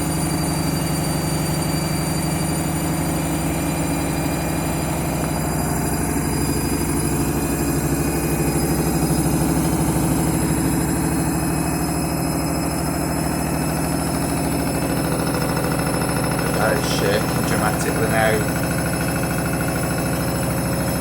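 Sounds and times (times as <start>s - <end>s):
washing machine spinning and shaking: 0.0s - 21.0s.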